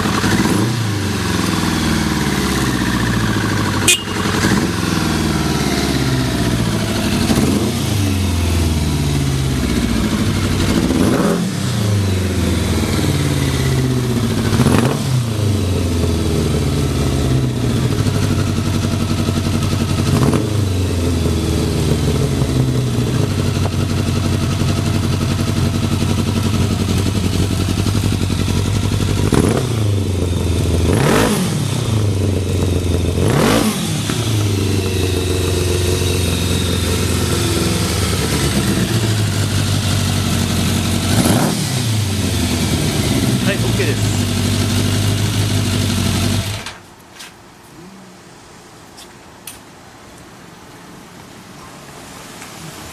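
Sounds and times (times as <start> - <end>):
motorcycle engine idling and revving: 0.0 - 46.8.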